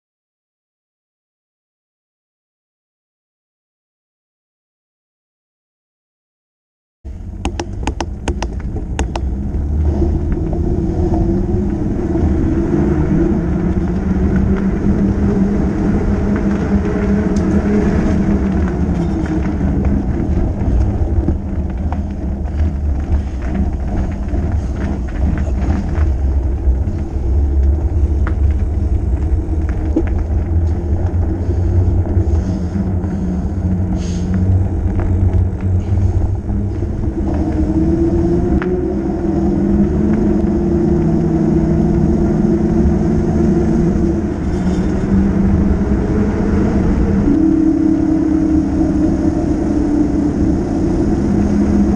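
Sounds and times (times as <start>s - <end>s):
bike tyre rumble on pavement: 7.1s - 51.9s
wind on microphone: 7.1s - 51.9s.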